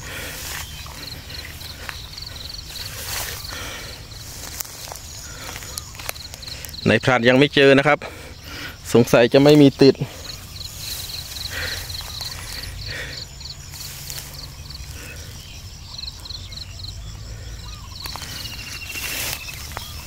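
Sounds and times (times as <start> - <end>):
insect chirping in pulses: 0.0 - 20.0.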